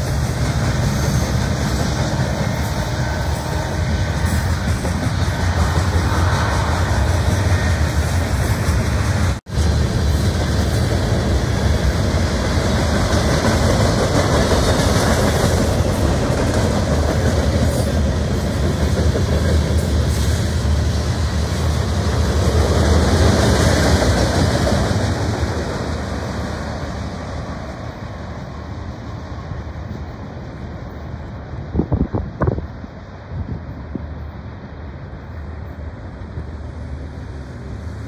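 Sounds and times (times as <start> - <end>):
freight train rolling on rails: 0.0 - 38.0.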